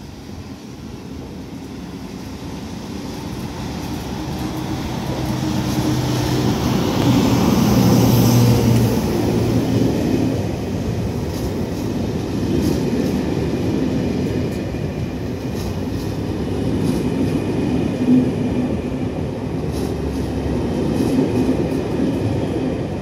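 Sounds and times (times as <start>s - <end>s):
locomotive hum: 0.0s - 23.0s
passenger train passing: 0.0s - 23.0s
coaches rolling on rails: 0.1s - 23.0s.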